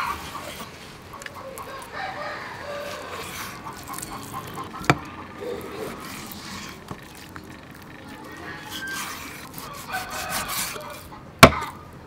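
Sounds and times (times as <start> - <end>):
knife slicing raw meat: 0.0 - 7.4, 8.4 - 11.7.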